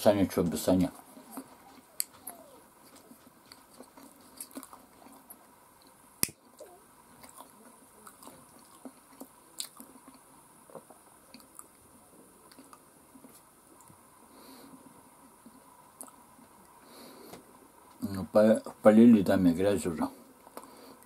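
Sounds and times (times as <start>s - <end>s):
faint chewing: 0.4s - 18.8s, 20.2s - 21.0s.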